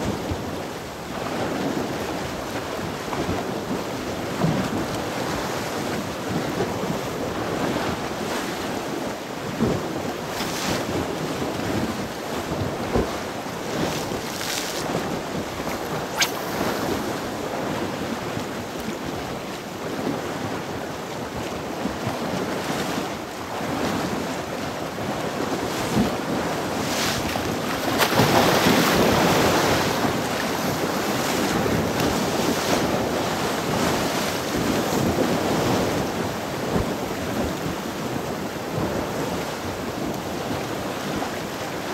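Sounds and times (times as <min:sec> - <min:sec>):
sea waves washing on shore: 0:00.0 - 0:41.9
wind buffeting microphone: 0:00.0 - 0:41.9.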